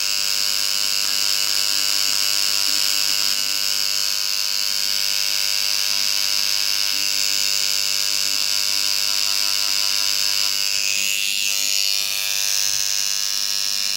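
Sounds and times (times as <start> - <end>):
electric engraver buzzing on stone: 0.0 - 13.9.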